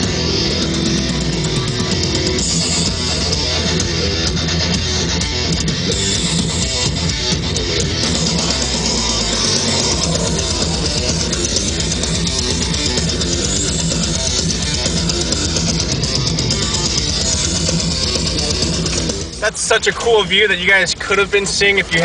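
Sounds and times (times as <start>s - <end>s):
rock music with electric guitar: 0.0s - 22.0s.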